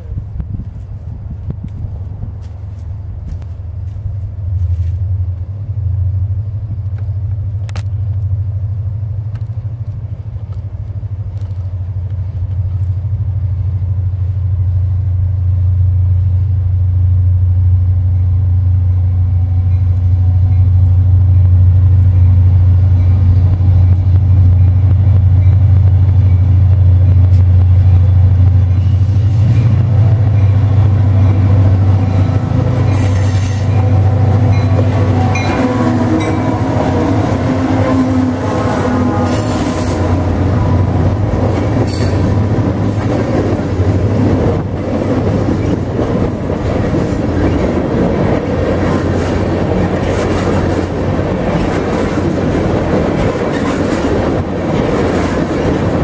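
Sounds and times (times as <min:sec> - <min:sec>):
diesel locomotive engines rumbling: 0:00.0 - 0:56.0.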